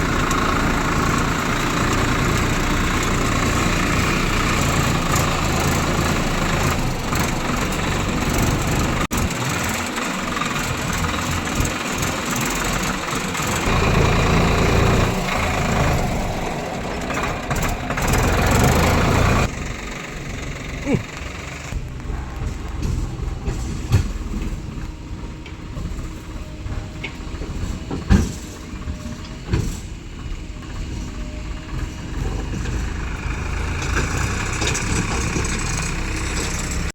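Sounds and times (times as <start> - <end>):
heavy diesel engine running: 0.0 - 36.9
heavy machinery rumbling: 0.0 - 36.9.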